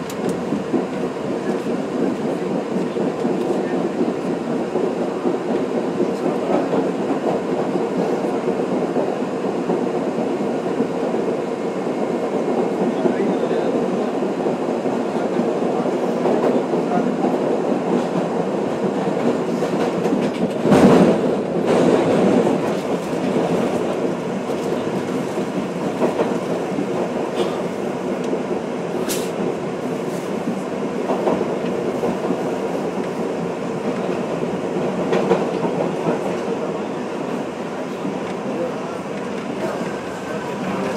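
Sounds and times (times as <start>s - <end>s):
subway train rumbling in tunnel: 0.0s - 40.9s.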